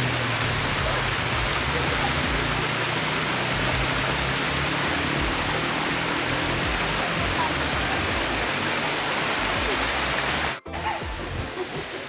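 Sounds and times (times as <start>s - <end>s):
waterfall cascading down rocks: 0.0s - 12.0s.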